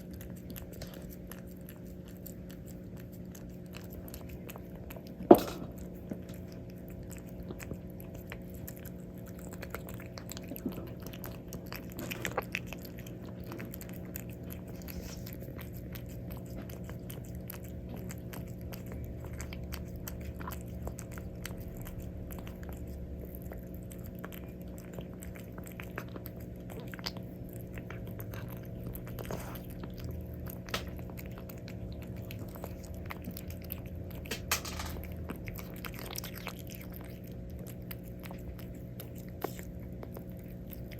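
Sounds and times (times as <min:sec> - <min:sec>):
cat chewing food: 0:00.0 - 0:40.9
low electrical hum: 0:00.0 - 0:40.9.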